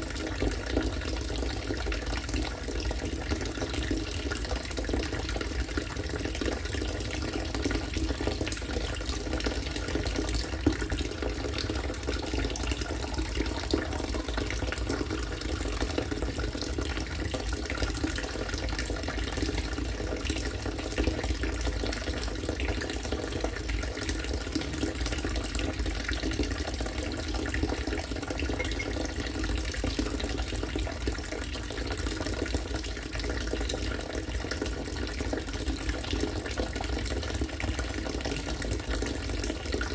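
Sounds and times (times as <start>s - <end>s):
water stream splashing into water: 0.0s - 39.9s.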